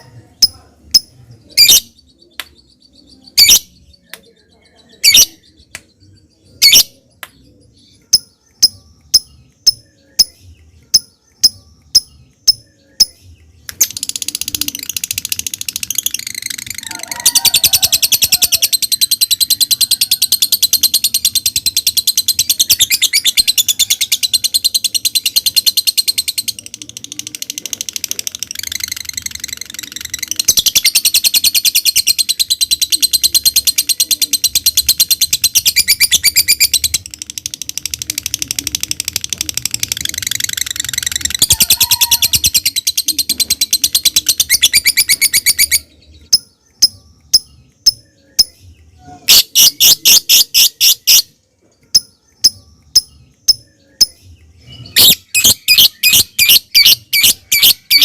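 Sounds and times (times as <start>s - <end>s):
lovebird chirping and trilling: 0.0s - 5.7s, 6.5s - 7.0s, 7.8s - 58.0s.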